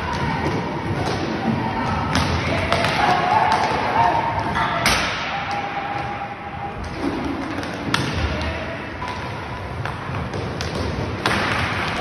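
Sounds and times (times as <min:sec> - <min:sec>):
din of skating and play: 0:00.0 - 0:12.0.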